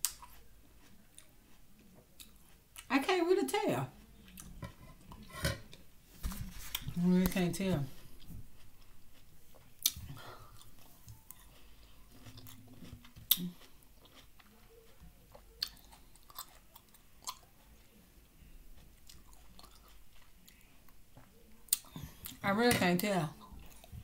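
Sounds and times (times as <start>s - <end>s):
chewing grapes: 0.0s - 2.9s, 3.9s - 5.8s, 6.6s - 22.5s, 23.3s - 24.0s.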